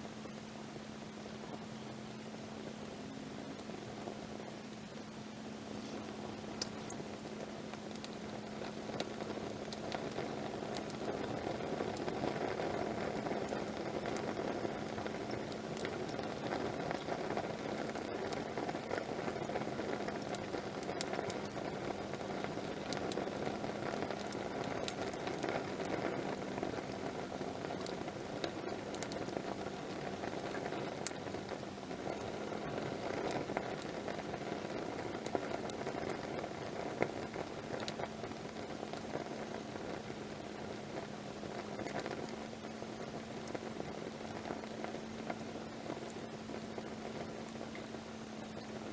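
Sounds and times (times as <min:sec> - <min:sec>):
burning wood crackling: 0:00.0 - 0:48.9
campfire flames hissing: 0:00.0 - 0:48.9.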